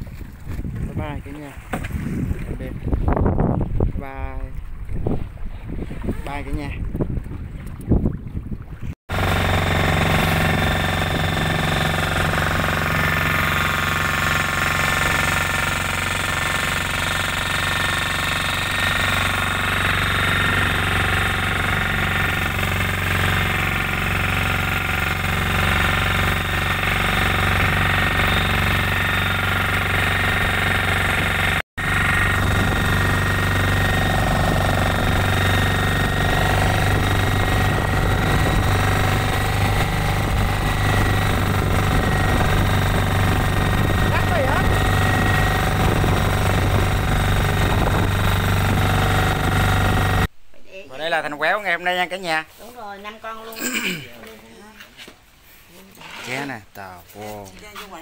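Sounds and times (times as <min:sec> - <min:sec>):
motorboat engine humming: 0:00.0 - 0:50.3.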